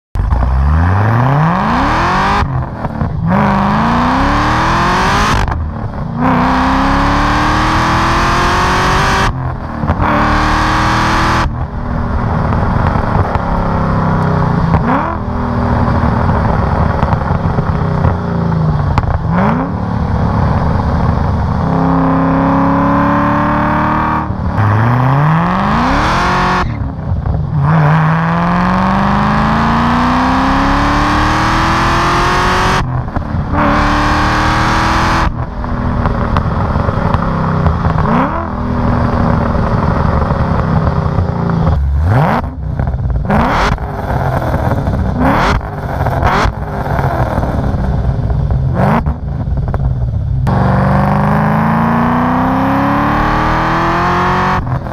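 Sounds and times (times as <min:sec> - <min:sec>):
car engine accelerating with gear shifts: 0:00.2 - 0:54.9.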